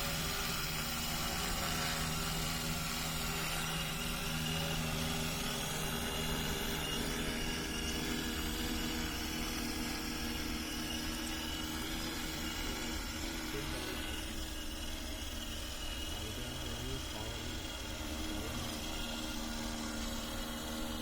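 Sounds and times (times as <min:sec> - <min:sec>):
drone rotors humming: 0:00.0 - 0:21.0.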